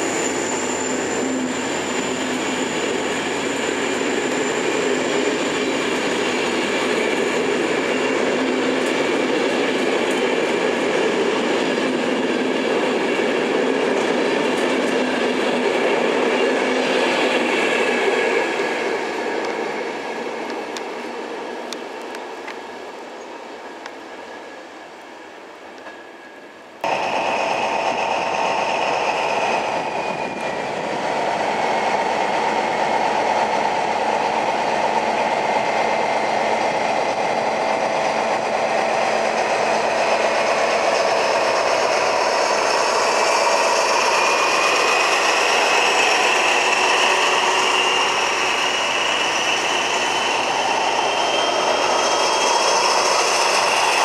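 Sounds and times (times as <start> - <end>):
diesel locomotives whining: 0.0 - 54.0
passenger train rolling: 0.0 - 54.0.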